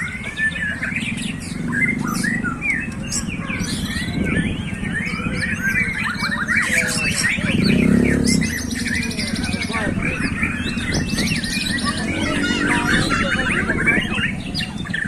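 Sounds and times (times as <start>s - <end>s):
birds whistling and trilling: 0.0s - 15.0s.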